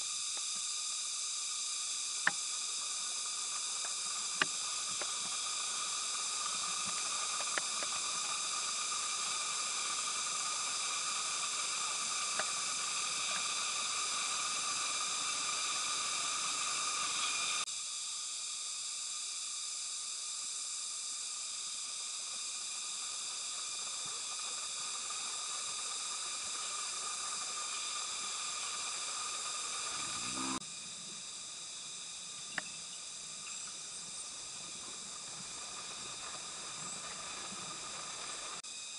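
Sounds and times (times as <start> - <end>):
insect chorus droning: 0.0 - 38.9.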